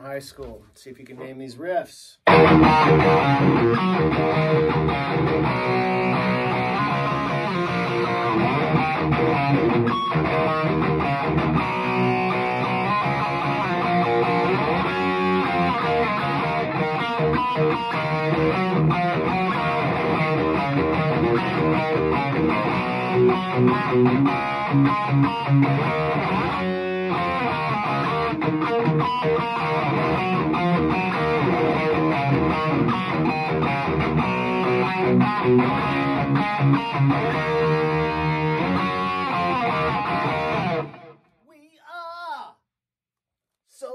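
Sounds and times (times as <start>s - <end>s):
electric guitar rock riffs: 2.2s - 41.3s.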